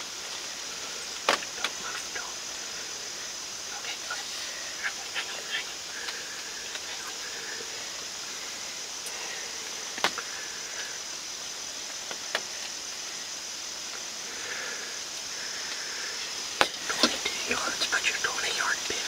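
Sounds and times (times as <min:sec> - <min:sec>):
steady high-pitched hiss: 0:00.0 - 0:19.0.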